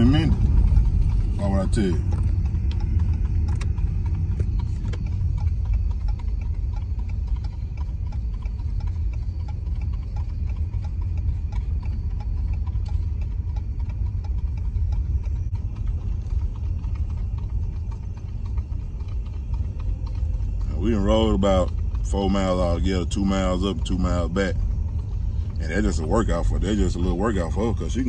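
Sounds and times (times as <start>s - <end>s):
car engine and tyres rumbling: 0.0s - 28.0s
horse hoofbeats on road: 0.0s - 28.0s.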